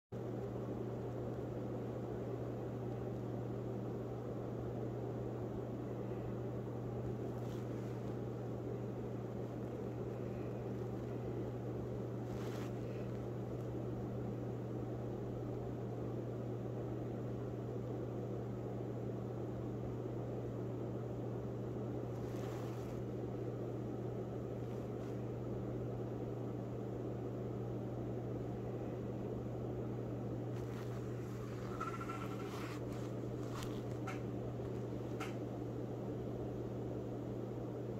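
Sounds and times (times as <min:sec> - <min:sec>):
machine hum with hiss: 0:00.2 - 0:37.9.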